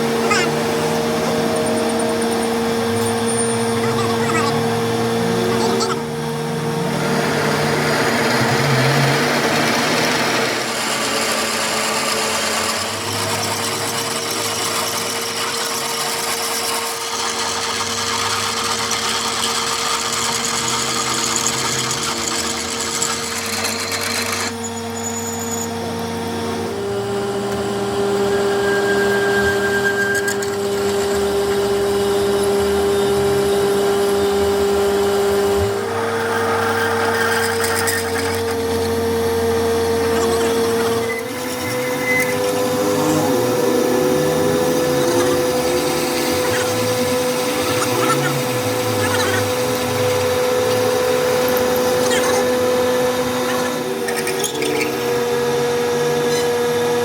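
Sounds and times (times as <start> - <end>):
power tool running: 0.0 - 57.0.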